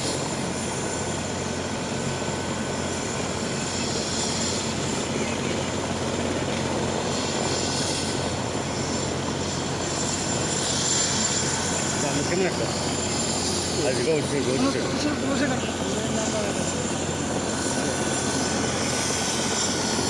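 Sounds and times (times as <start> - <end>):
helicopter engines and rotor: 0.0 - 20.0.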